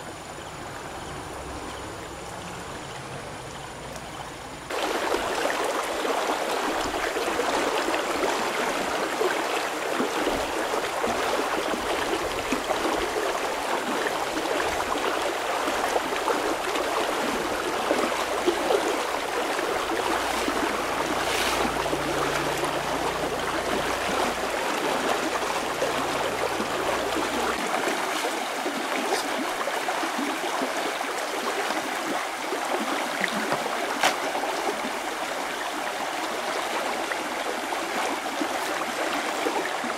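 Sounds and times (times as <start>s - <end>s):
stream rushing over stones: 4.7s - 39.9s.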